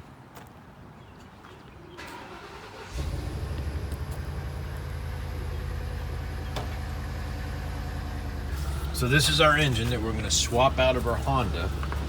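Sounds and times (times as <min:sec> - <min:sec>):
vehicle engine idling: 0:02.1 - 0:12.0.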